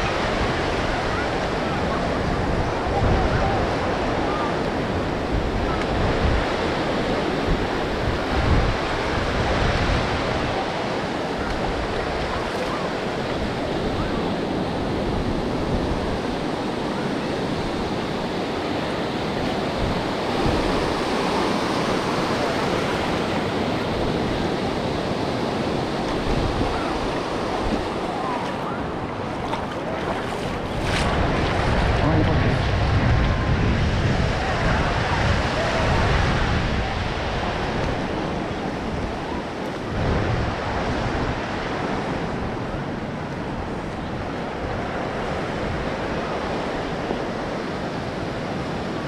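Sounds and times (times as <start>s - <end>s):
ocean surf washing onto beach: 0.0s - 49.0s
wind buffeting microphone: 0.0s - 49.0s.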